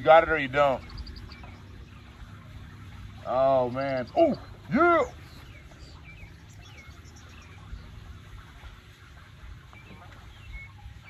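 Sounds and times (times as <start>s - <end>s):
birds chirping faintly: 0.0s - 11.0s
low background rumble: 0.0s - 11.0s.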